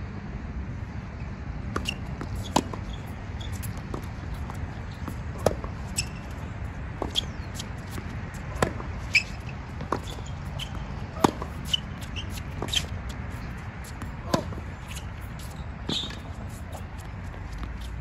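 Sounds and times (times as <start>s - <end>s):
rackets hitting tennis ball: 1.7s - 18.0s
tennis ball bouncing on hard court: 1.7s - 18.0s.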